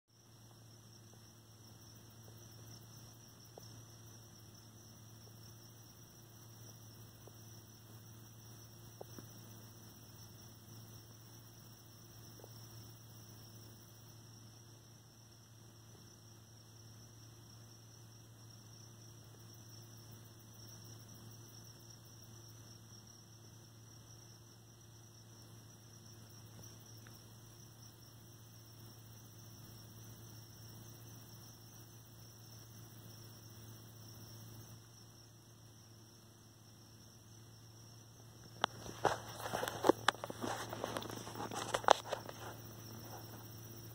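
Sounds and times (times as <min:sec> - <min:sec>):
crickets trilling: 0:00.1 - 0:43.9.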